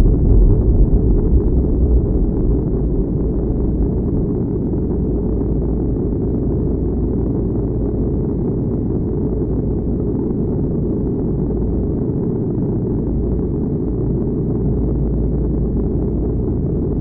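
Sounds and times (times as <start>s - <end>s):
deep explosion rumble: 0.0s - 17.0s.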